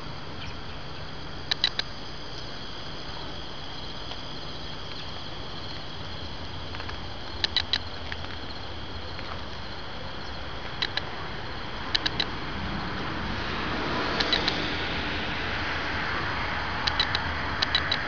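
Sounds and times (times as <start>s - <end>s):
insects chirping: 0.0s - 18.0s
steady background hiss: 0.0s - 18.0s.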